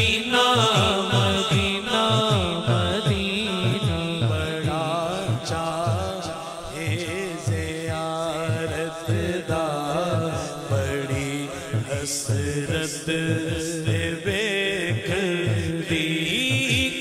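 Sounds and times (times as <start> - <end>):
man singing solo: 0.0 - 17.0.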